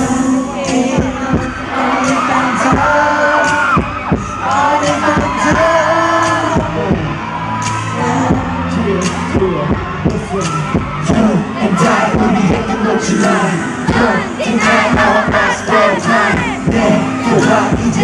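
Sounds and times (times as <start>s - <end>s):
steady drum beat: 0.0s - 7.2s, 8.2s - 18.0s
men singing: 0.0s - 18.0s
pop song playing loudly: 0.0s - 18.0s.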